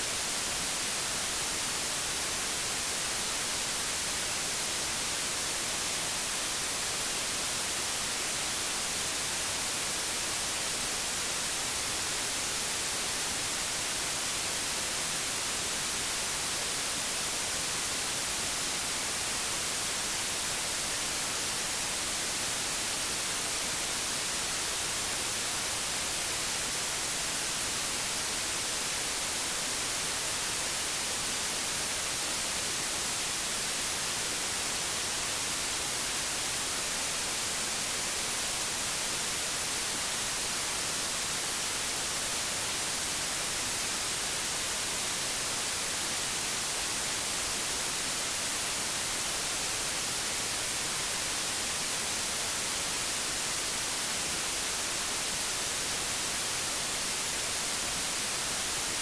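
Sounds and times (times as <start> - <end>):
television static hiss: 0.0 - 59.0.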